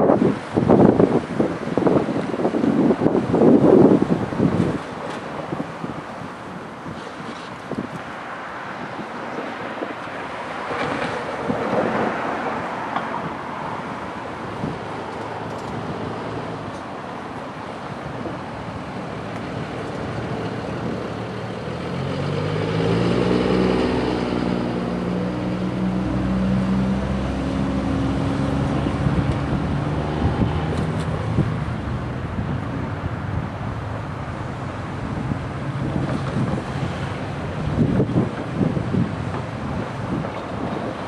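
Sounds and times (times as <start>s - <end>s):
cars driving past: 0.0s - 41.0s.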